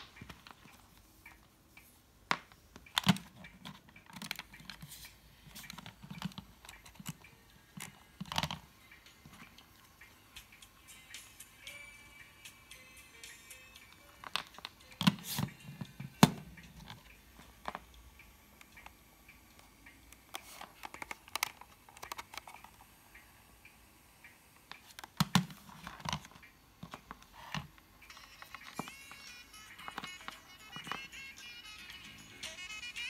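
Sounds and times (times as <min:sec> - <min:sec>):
faint music from cassette player: 0:00.0 - 0:33.0.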